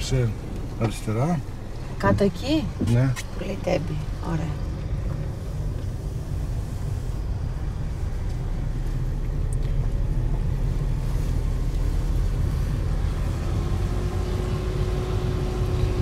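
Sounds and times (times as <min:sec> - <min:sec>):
car road noise rumble: 0:00.0 - 0:16.0.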